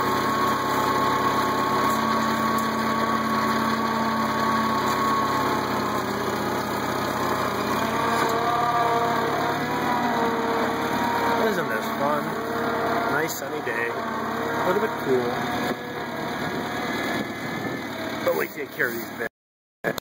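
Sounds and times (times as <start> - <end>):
tractor engine running: 0.0 - 19.3.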